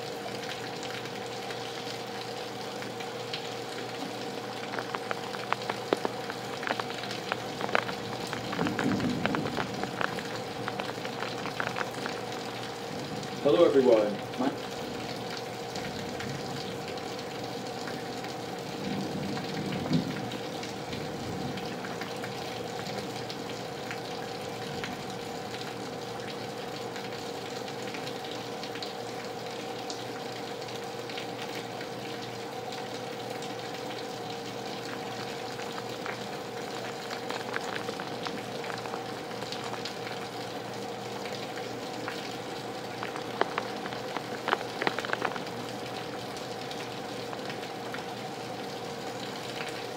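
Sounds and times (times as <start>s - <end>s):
drips from leaky gutters: 0.0s - 49.9s
faint steady hum: 0.0s - 49.9s
heavy rain falling: 0.0s - 49.9s.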